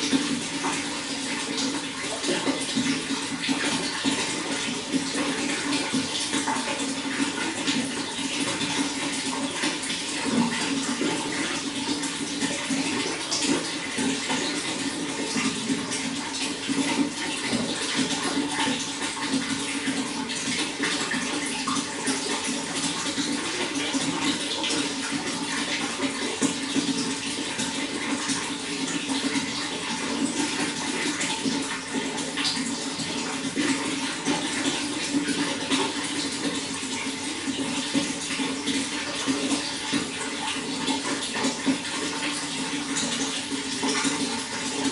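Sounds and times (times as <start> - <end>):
running water splashing: 0.0 - 44.9.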